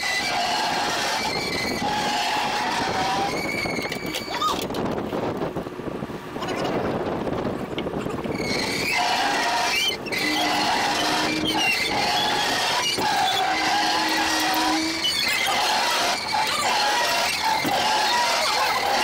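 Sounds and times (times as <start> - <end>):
pulley squealing: 0.0 - 4.7, 8.0 - 19.0
boat engine: 0.0 - 19.0.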